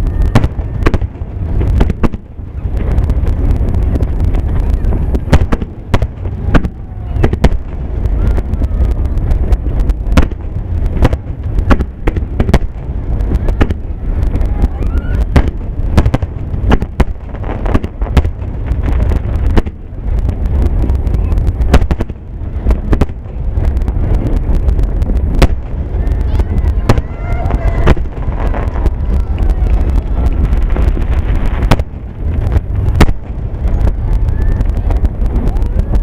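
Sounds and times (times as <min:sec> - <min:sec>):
fireworks bangs: 0:00.0 - 0:36.0
low rumble: 0:00.0 - 0:36.0.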